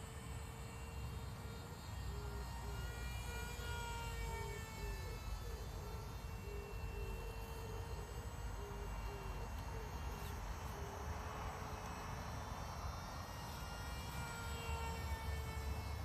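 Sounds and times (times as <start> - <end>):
small electric motor whine: 0.0 - 16.0.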